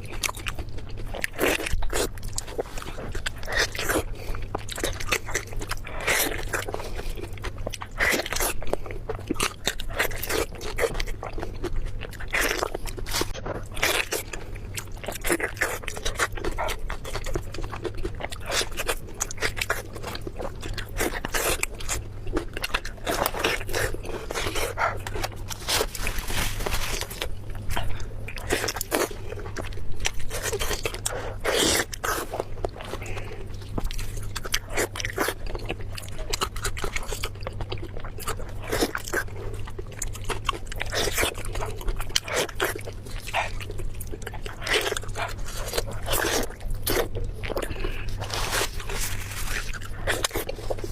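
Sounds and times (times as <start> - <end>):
low steady hum: 0.0 - 50.9
person chewing and crunching food: 0.0 - 50.9.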